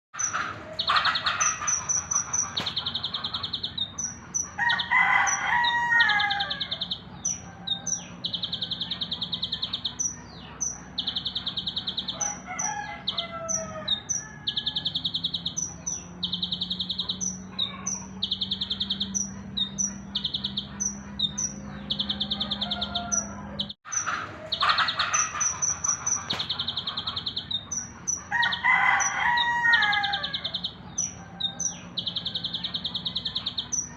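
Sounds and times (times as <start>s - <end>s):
bird chirps: 0.2s - 33.9s
lower bird calls: 0.2s - 33.9s.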